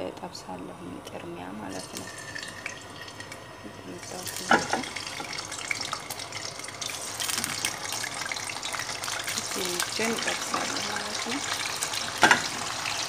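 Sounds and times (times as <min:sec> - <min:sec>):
oil sizzling and crackling: 0:01.7 - 0:13.0.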